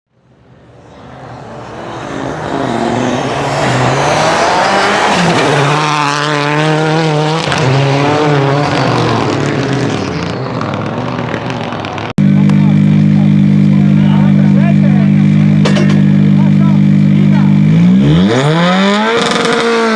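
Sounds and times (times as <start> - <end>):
rally car engine accelerating: 0.2 - 19.9.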